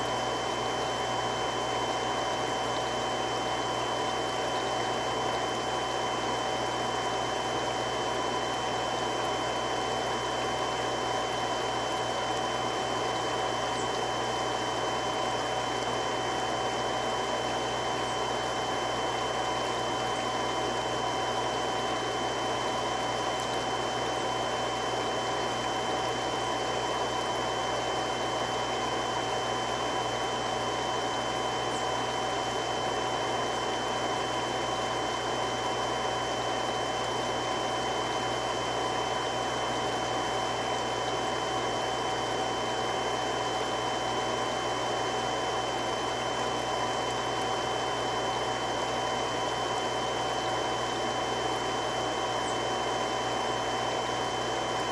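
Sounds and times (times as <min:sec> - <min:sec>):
water pump rushing hum: 0:00.0 - 0:54.9.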